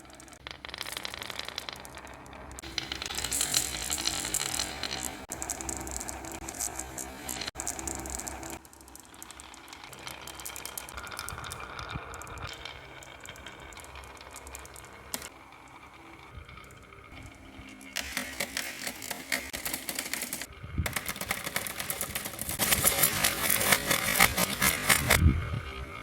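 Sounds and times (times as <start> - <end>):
marbles rolling on wooden track: 0.0 - 26.0.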